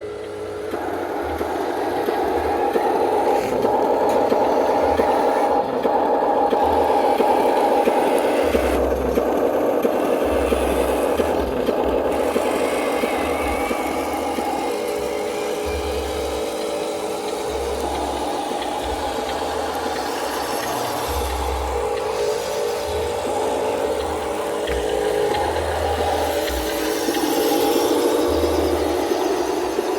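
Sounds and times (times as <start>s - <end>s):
model vehicle motors and gearboxes: 0.0s - 29.9s.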